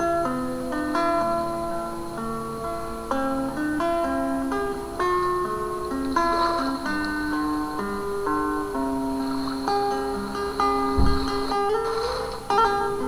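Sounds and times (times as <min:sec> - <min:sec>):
acoustic guitar slow melody: 0:00.0 - 0:13.0.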